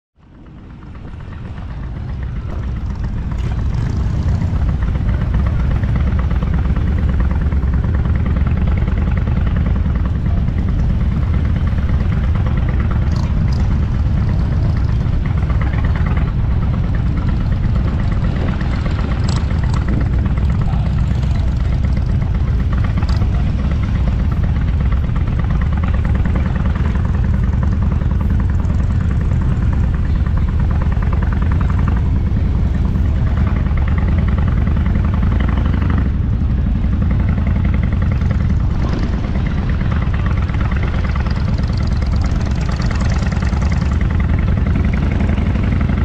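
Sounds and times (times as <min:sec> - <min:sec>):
motorcycle engine rumbling: 0:00.2 - 0:46.0.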